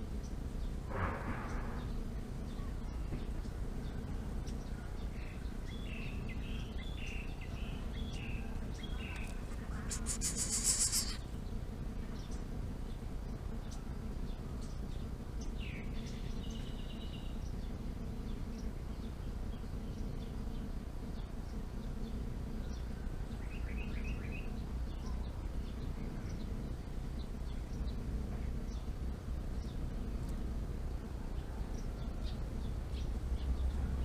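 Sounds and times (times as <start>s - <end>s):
low outdoor rumble: 0.0s - 10.2s, 11.2s - 34.0s
birds chirping: 1.5s - 30.4s.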